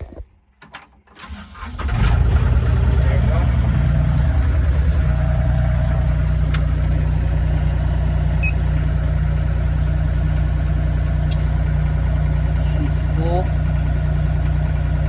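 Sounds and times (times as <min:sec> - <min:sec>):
diesel excavator engine idling: 0:01.3 - 0:15.0.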